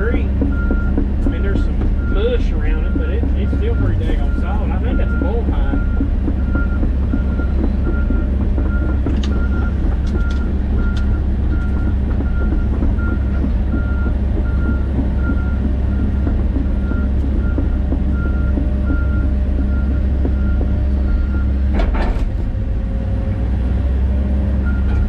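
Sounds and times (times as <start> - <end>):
travel alarm beeping: 0.0 - 21.6
excavator diesel engine running: 0.0 - 25.0.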